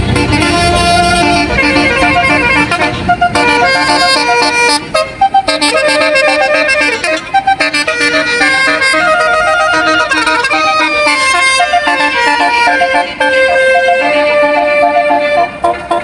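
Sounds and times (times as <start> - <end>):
bus horn playing a melody: 0.0 - 16.0.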